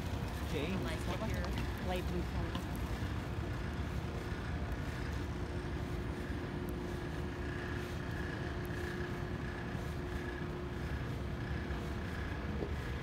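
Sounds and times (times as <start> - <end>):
distant traffic rumble: 0.0 - 13.0
faint steady hum: 0.0 - 13.0.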